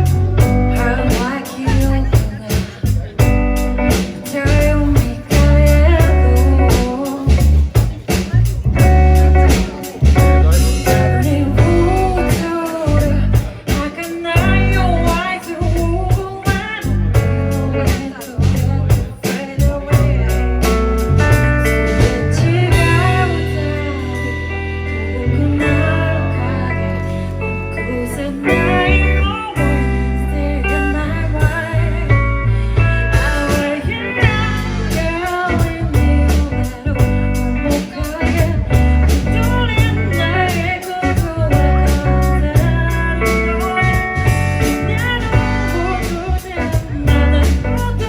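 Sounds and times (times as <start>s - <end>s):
steady drum beat: 0.0s - 26.0s, 28.4s - 48.0s
band playing live: 0.0s - 48.0s
bass guitar: 0.0s - 48.0s
guitar: 0.0s - 48.0s
person singing: 0.0s - 48.0s.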